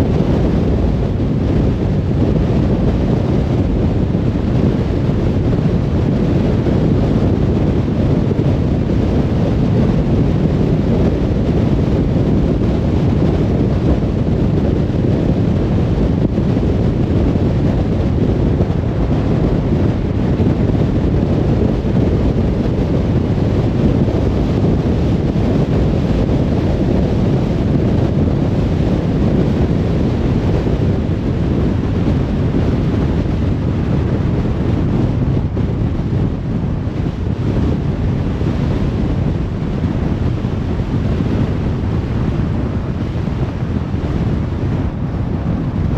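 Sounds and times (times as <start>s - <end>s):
tyre and wind rumble: 0.0s - 45.9s.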